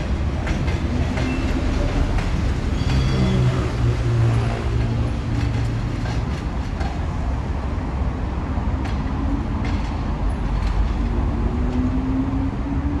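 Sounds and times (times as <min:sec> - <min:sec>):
wheels clicking over rail joints: 0:00.0 - 0:12.0
train rumbling: 0:00.0 - 0:13.0.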